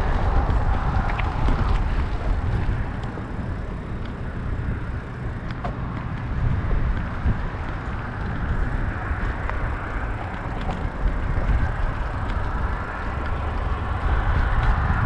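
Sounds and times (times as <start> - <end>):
bicycle tyres hissing: 0.0 - 5.4, 7.1 - 15.0
wind rumble on microphone: 0.0 - 15.0.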